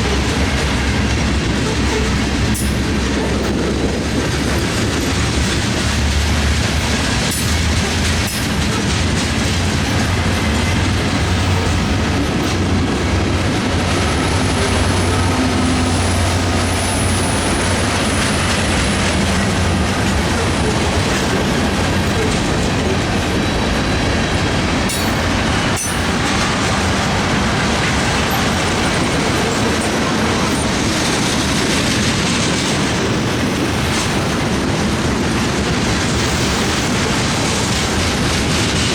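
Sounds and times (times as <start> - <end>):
freight train wheels rumbling: 0.0 - 38.9
wheels clacking over rail joints: 0.0 - 38.9.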